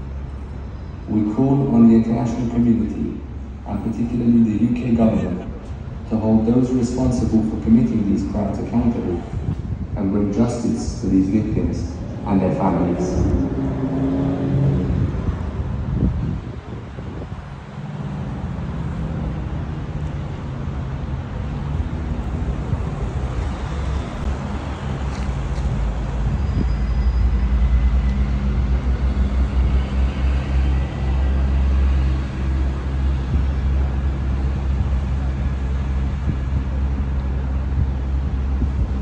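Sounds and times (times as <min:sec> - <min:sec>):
low engine hum: 0:00.0 - 0:39.0
road traffic rumble: 0:00.0 - 0:39.0.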